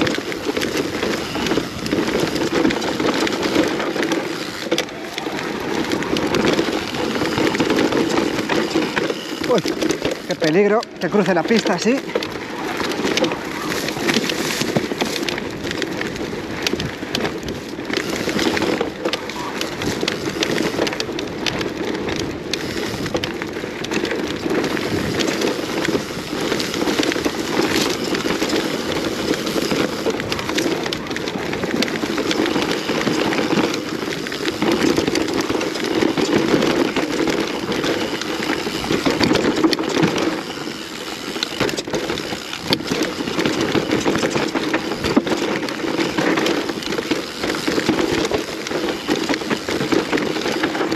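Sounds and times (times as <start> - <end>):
bike rattling over bumps: 0.0 - 50.9
bike tyres rolling over dirt: 0.0 - 50.9.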